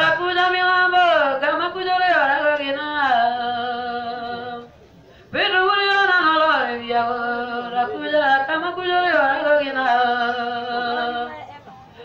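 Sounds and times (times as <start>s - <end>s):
person singing unaccompanied: 0.0s - 4.7s, 5.4s - 12.0s.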